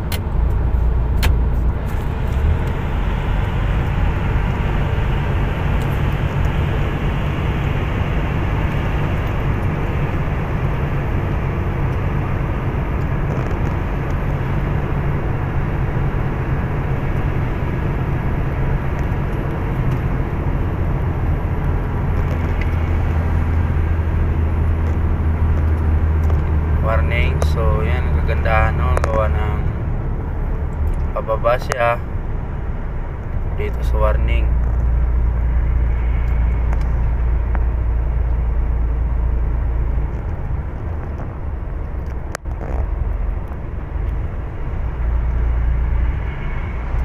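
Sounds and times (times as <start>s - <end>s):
deeper drone: 0.0s - 47.0s
diesel engine droning: 0.0s - 47.0s
tyre and road noise: 0.0s - 47.0s.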